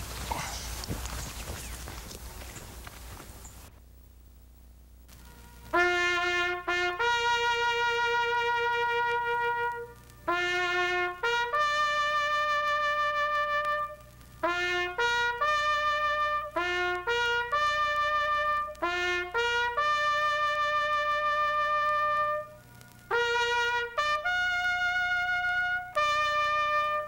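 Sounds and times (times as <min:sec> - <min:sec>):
solo trumpet playing slow tune: 0:05.1 - 0:27.0.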